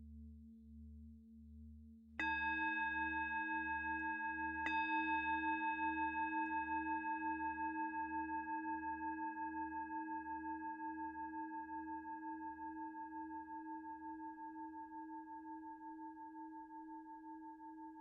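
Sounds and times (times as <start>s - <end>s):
low singing bowl tone: 0.0s - 18.0s.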